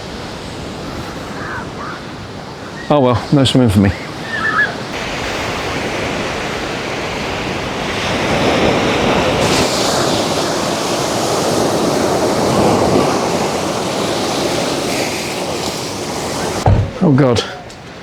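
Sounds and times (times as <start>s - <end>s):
sea waves washing onto shore: 0.0s - 18.0s
wind buffeting microphone: 0.0s - 18.0s.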